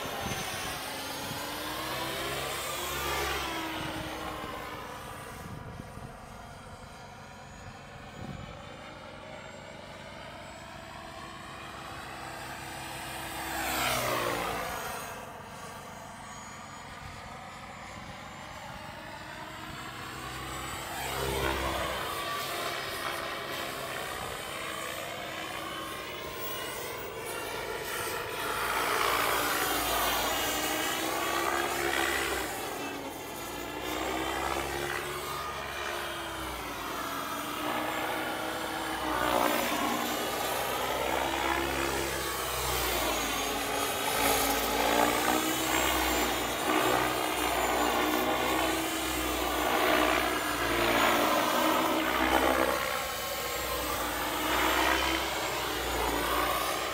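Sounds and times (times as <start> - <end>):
helicopter rotor noise: 0.0 - 56.9
model helicopter turbine whine: 0.0 - 56.9.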